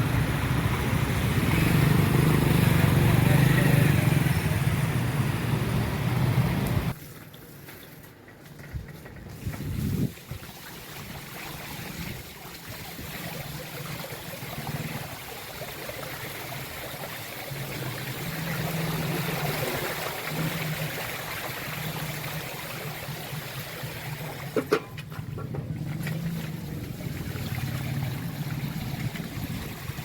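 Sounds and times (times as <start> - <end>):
floodwater rushing: 0.0 - 7.0, 9.7 - 30.0.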